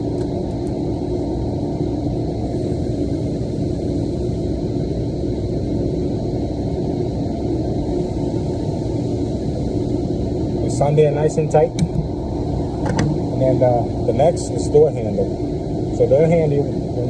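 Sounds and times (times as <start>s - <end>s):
low rumble of background noise: 0.0s - 17.0s.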